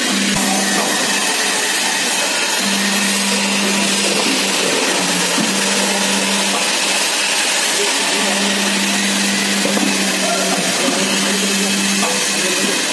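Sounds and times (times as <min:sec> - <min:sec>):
roofing sheet machine whirring: 0:00.0 - 0:12.9.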